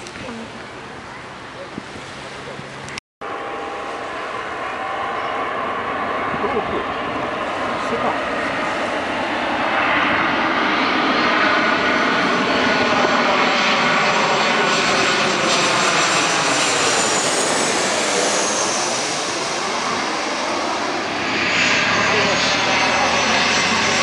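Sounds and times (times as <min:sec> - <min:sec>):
jet airliner passing overhead: 0:00.0 - 0:24.0.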